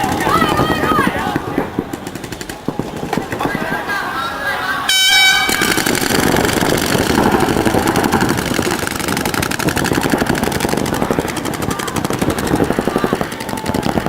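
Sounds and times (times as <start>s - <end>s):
paintball markers firing rapidly: 0.0s - 3.8s, 5.4s - 14.0s.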